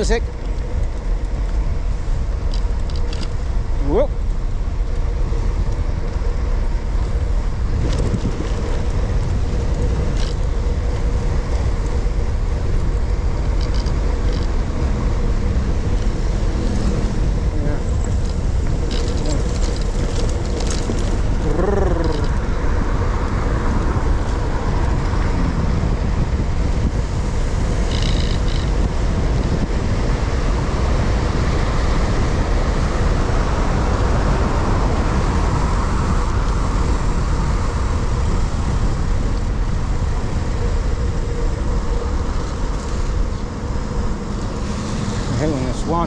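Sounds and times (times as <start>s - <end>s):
road and traffic noise: 0.0s - 46.0s
wind rushing over microphone: 0.0s - 46.0s.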